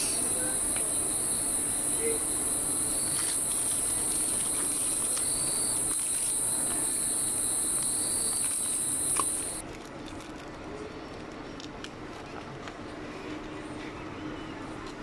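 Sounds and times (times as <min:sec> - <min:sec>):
shop background noise: 0:00.0 - 0:15.0.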